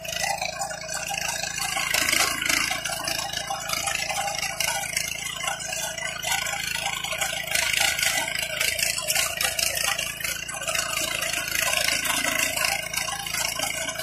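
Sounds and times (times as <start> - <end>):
weeder engine clattering: 0.0 - 14.0.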